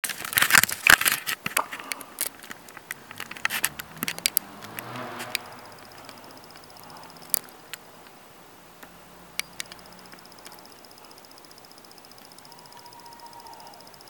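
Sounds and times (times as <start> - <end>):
sharp irregular clicks and crackles: 0.0 - 14.0
crickets chirping: 0.8 - 14.0.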